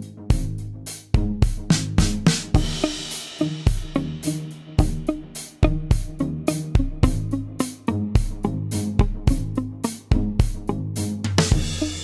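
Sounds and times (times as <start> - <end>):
drum-kit beat with bass: 0.0 - 12.0.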